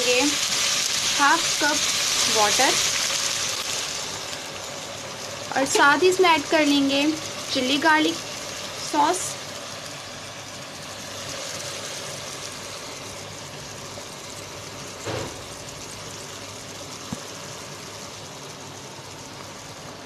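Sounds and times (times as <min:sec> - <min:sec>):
food sizzling in a pan: 0:00.0 - 0:20.0
steady hum: 0:00.0 - 0:20.0.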